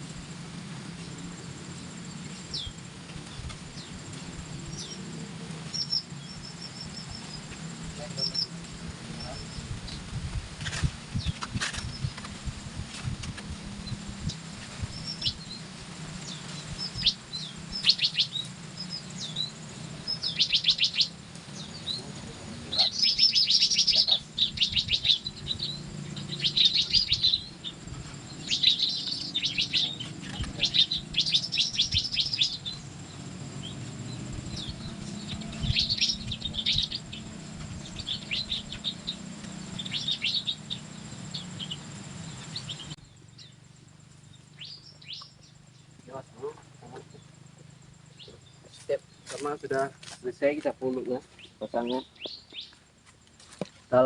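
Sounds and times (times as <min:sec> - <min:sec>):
steady low hum: 0:00.0 - 0:53.8
songbirds chattering trills: 0:00.0 - 0:54.0.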